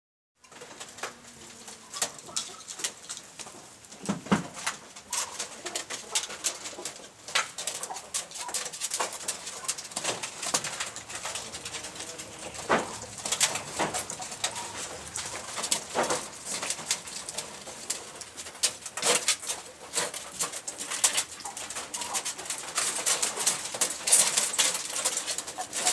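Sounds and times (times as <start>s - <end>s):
pigeons cooing: 0.6s - 3.9s, 4.6s - 25.9s.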